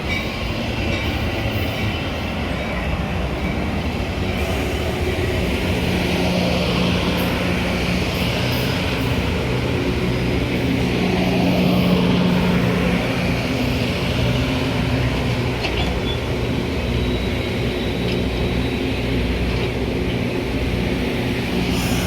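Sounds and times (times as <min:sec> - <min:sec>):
train running with low drone: 0:00.0 - 0:22.0.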